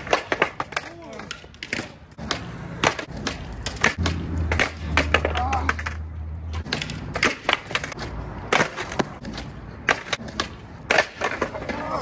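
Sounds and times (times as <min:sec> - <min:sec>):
skateboard clacks and slaps: 0:00.0 - 0:06.0, 0:06.6 - 0:12.0
skateboard rolling: 0:00.0 - 0:12.0.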